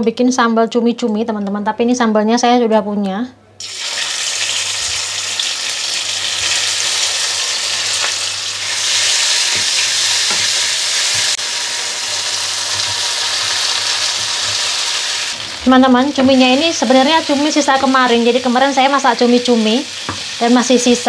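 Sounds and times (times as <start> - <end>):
chili paste sizzling in oil: 3.6 - 21.0.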